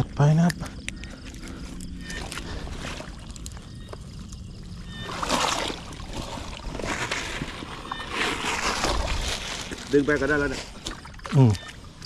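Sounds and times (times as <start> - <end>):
water sloshing and splashing: 0.9 - 12.0.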